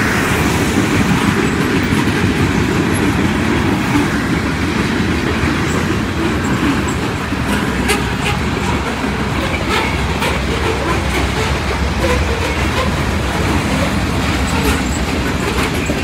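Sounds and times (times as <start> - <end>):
freight train wheels rumbling: 0.0 - 16.0
train wheel clicks: 1.0 - 16.0.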